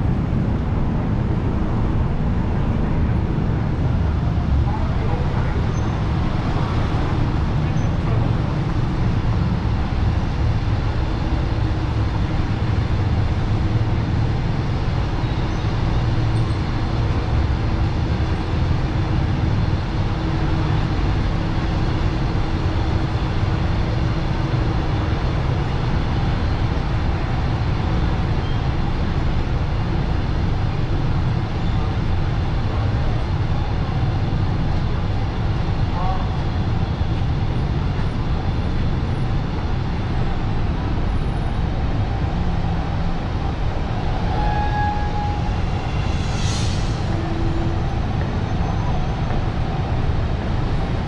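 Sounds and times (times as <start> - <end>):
city road traffic rumble: 0.0 - 51.0.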